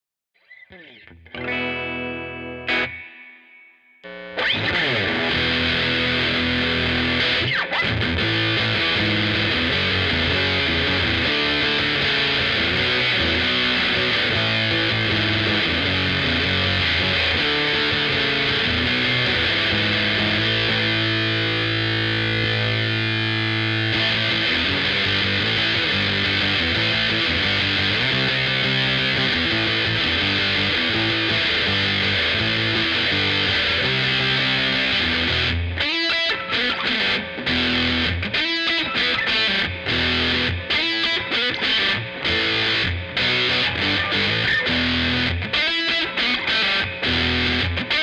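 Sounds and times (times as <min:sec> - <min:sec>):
distorted fuzz electric guitar: 0:00.7 - 0:48.0.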